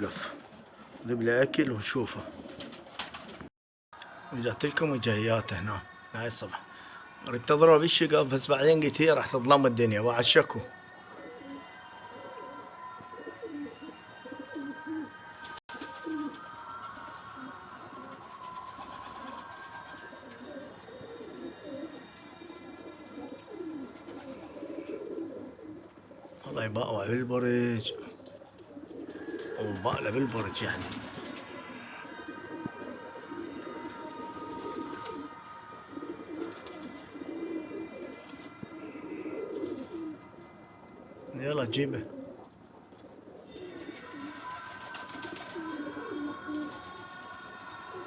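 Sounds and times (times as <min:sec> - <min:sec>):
pigeons cooing: 0:00.0 - 0:03.5, 0:07.9 - 0:48.0.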